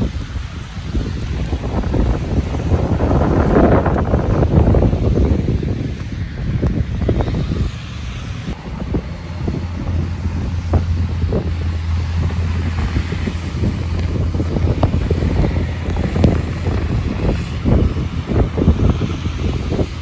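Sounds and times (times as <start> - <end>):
traffic on snowy road: 0.0 - 20.0
wind buffeting microphone: 0.0 - 20.0.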